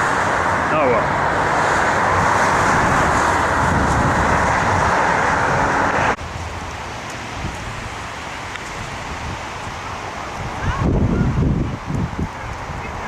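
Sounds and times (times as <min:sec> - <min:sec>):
storm wind rushing: 0:00.0 - 0:13.0
wind in trees: 0:00.0 - 0:13.0.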